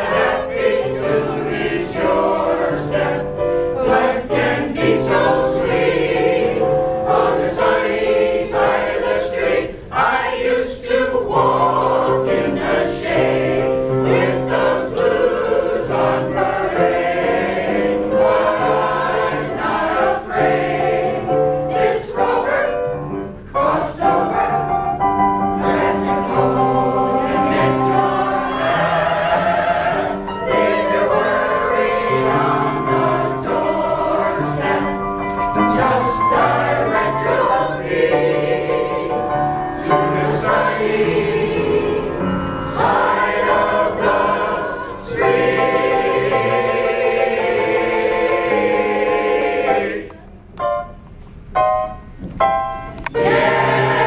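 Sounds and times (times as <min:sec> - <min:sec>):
mixed choir singing: 0:00.0 - 0:50.4, 0:53.0 - 0:54.0
upright piano: 0:00.0 - 0:54.0.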